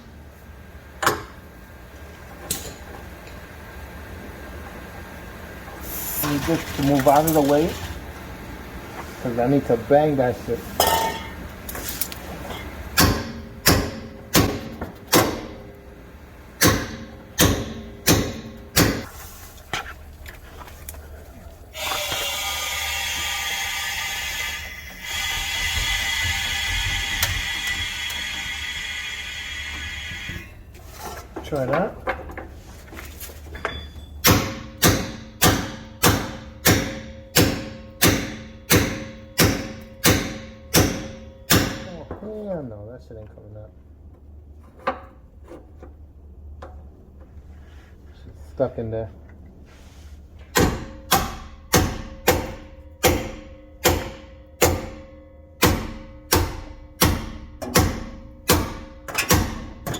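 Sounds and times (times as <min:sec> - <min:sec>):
steady mechanical noise: 0:00.0 - 0:59.9.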